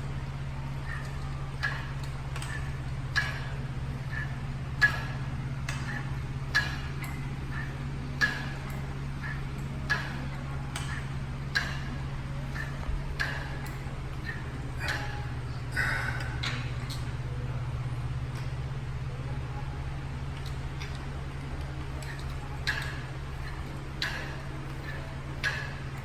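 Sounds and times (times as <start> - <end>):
sharp rhythmic clicks: 0.0 - 17.2, 20.3 - 26.0
low hum: 0.0 - 26.0.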